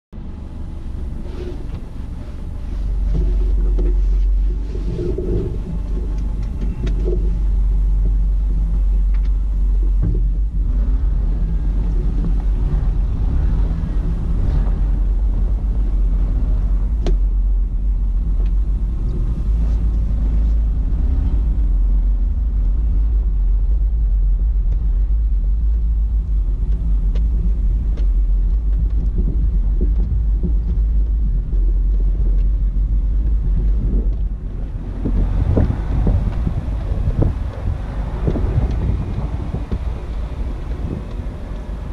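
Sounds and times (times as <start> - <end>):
car driving rumble: 0.1 - 41.9
road noise: 0.1 - 41.9
wind noise: 0.2 - 41.9.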